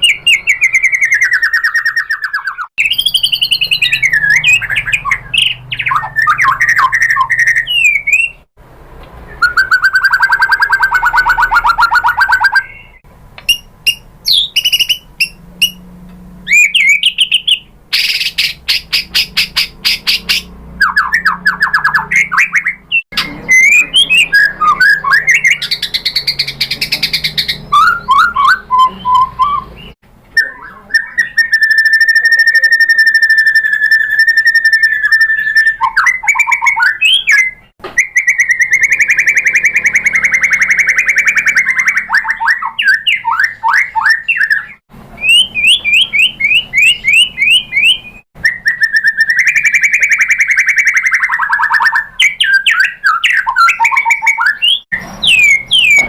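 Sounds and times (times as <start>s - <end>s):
bird singing whistles and trills: 0.0s - 8.5s, 9.3s - 15.8s, 16.5s - 56.0s.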